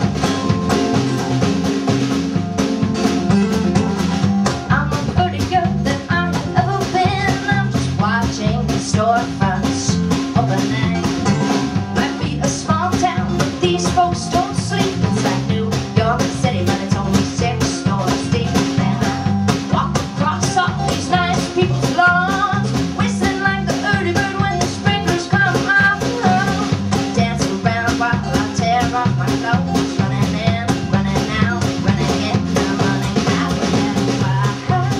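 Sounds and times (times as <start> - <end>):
guitar melody: 0.0 - 8.2, 9.0 - 34.9
bass guitar: 0.0 - 34.9
drum kit steady beat: 0.0 - 34.9.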